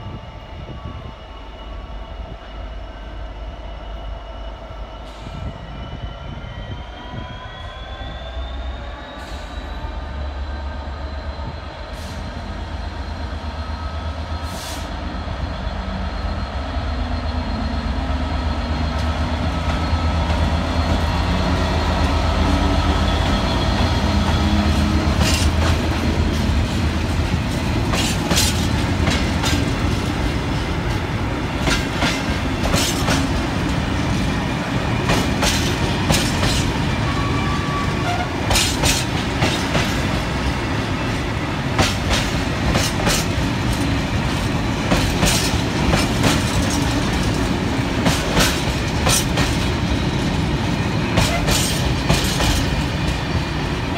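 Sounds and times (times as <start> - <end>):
diesel locomotive engine passing: 0.0 - 53.9.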